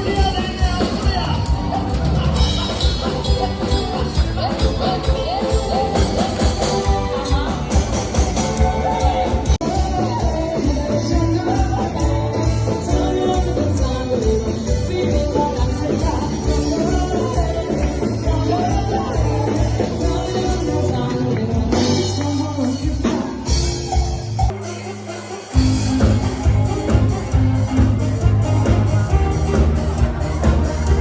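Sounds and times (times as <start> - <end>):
band playing with singer: 0.0 - 31.0.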